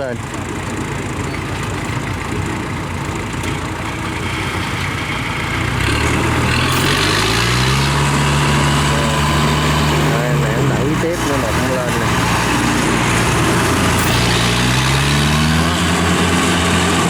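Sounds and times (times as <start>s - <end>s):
tractor engine straining at high revs: 0.0s - 17.0s.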